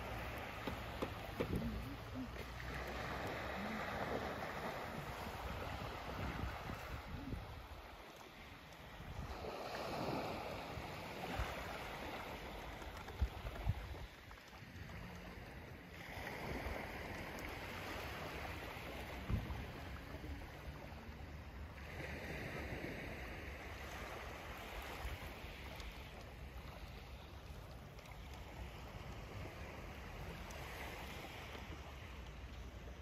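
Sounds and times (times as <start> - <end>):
small waves lapping on shore: 0.0 - 33.0.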